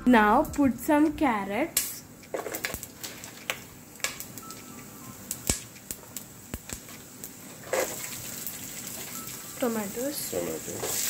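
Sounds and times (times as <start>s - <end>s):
oil sizzling and crackling in a pot: 0.3s - 11.0s.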